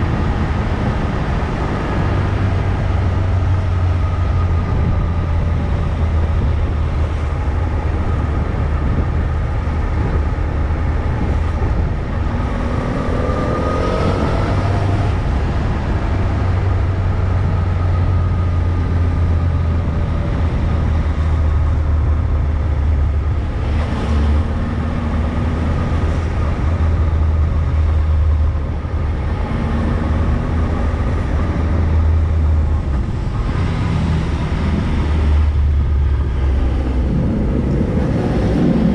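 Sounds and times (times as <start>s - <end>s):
road noise: 0.0s - 38.9s
wind: 0.0s - 38.9s.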